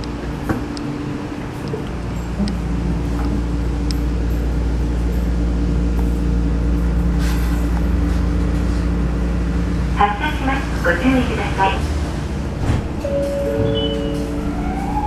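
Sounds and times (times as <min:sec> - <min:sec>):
tram cabin rumble: 0:00.0 - 0:15.0.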